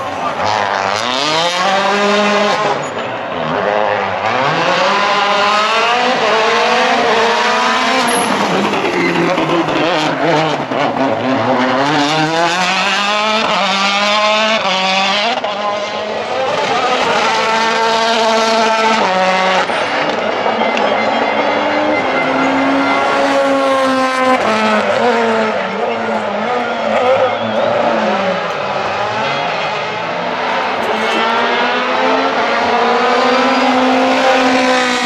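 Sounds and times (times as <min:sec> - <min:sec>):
rally car engine revving hard: 0:00.0 - 0:35.0.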